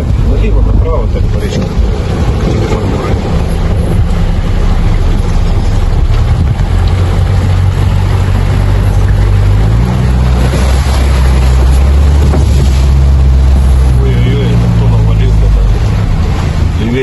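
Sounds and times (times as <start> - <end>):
vehicle engine running loudly: 0.0 - 17.0.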